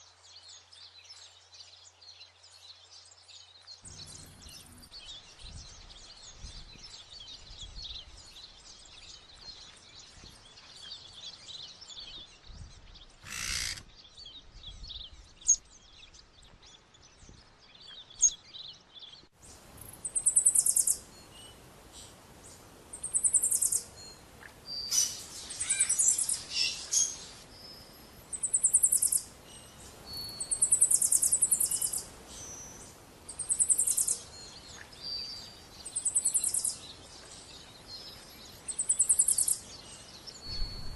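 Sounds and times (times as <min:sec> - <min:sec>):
chorus of bird chirps: 0:00.3 - 0:40.9.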